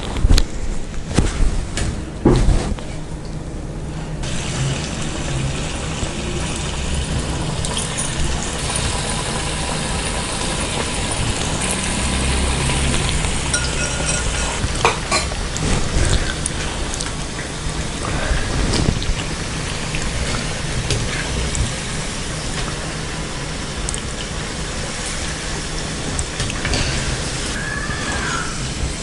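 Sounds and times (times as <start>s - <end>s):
dough deep-frying in oil: 4.2s - 29.0s.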